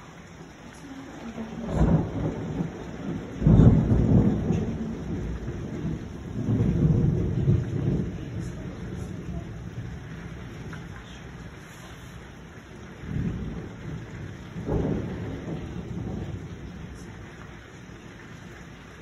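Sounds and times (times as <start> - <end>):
steady rain: 0.0 - 19.0
thunder rumbling: 0.0 - 19.0.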